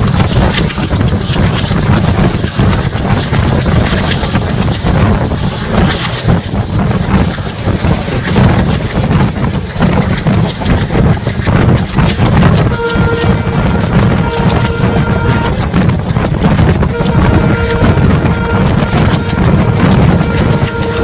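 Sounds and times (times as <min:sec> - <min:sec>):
diesel locomotive engine running hard: 0:00.0 - 0:21.0
wind buffeting microphone: 0:00.0 - 0:21.0.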